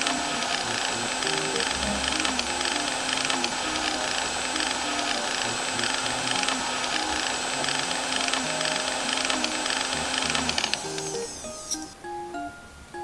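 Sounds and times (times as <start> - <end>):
small motor whirring with crackling: 0.0 - 11.9
background music simple melody: 0.0 - 13.0.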